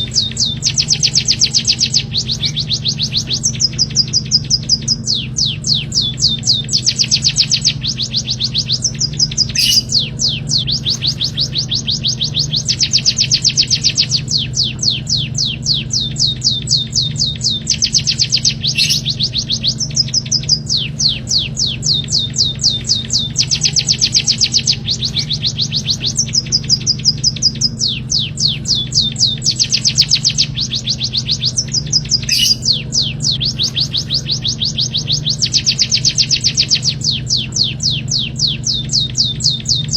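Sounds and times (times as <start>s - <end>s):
low hum: 0.0s - 39.9s
songbird trilling: 0.0s - 39.9s.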